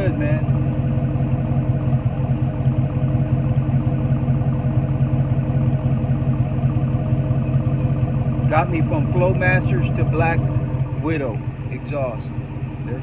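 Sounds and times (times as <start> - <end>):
truck exhaust idling: 0.0 - 13.0.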